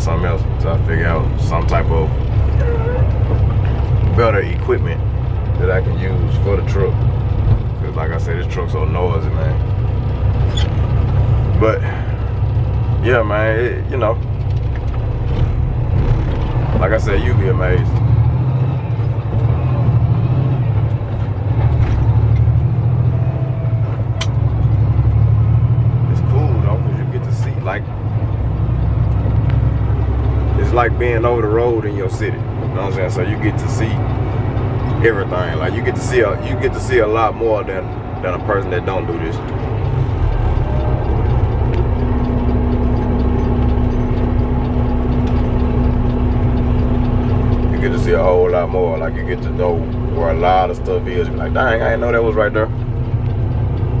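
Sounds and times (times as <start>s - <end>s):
diesel truck engine drone: 0.0s - 54.0s
road rumble: 0.0s - 54.0s.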